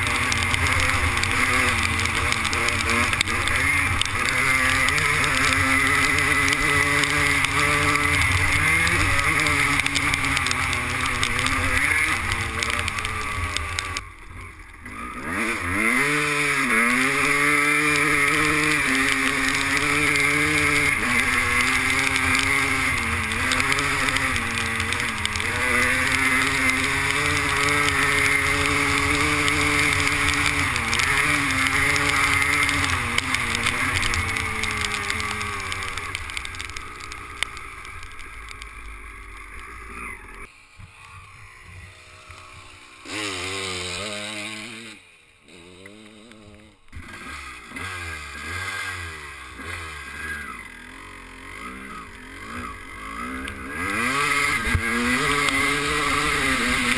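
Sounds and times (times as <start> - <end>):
motocross bike engine running hard: 0.0 - 56.9
quieter two-stroke engine revving: 0.0 - 56.9.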